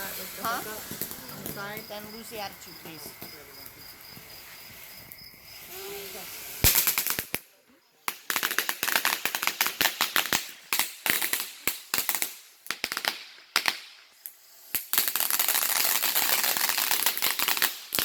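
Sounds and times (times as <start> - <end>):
firecrackers banging: 0.0 - 18.0.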